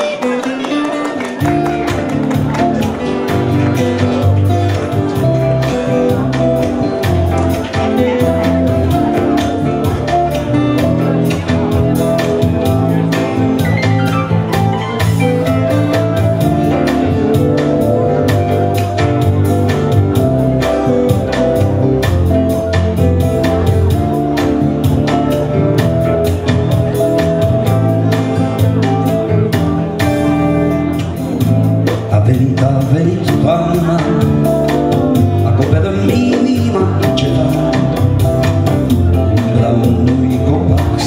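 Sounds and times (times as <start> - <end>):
electronic keyboard sustained notes: 0.0 - 41.0.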